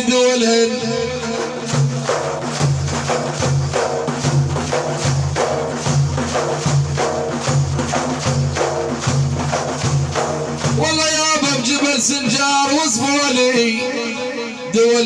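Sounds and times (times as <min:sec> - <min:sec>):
percussion beating a rhythm: 0:00.0 - 0:15.0.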